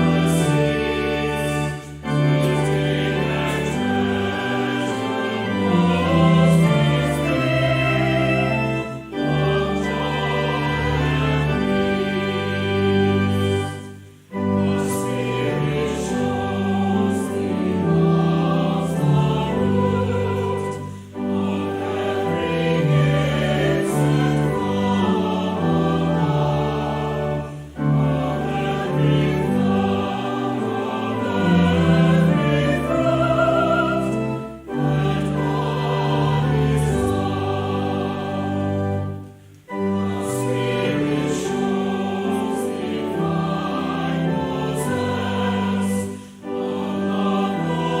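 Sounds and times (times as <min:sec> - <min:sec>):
choir singing slow anthem: 0:00.0 - 0:48.0.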